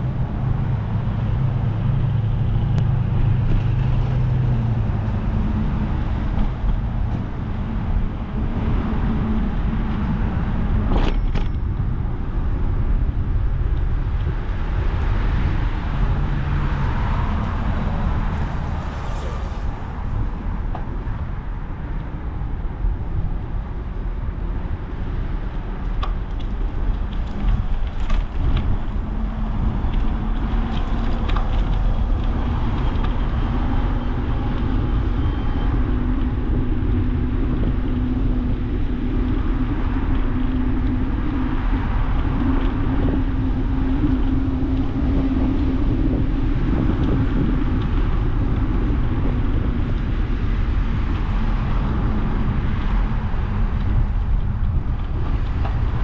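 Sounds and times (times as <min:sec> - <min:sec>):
passing cars rumbling: 0:00.0 - 0:56.0.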